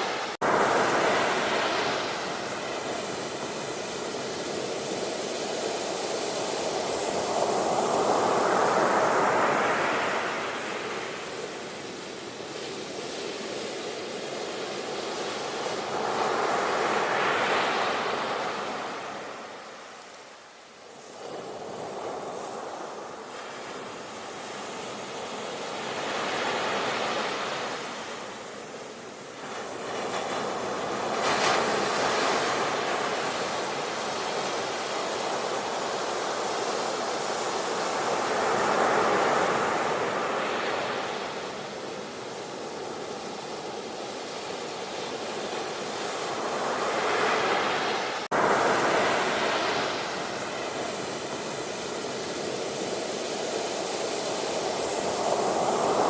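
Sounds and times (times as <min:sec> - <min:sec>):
sea waves breaking: 0:00.0 - 0:12.0, 0:21.0 - 0:56.0.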